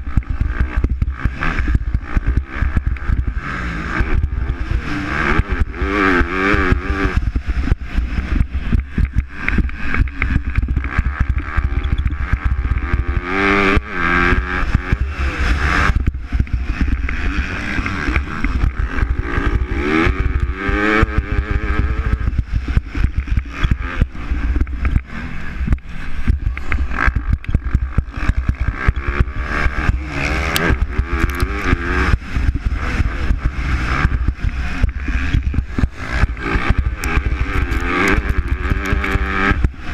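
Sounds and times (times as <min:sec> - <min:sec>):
continuous low rumble: 0:00.0 - 0:39.9
motocross bikes revving: 0:00.0 - 0:39.9.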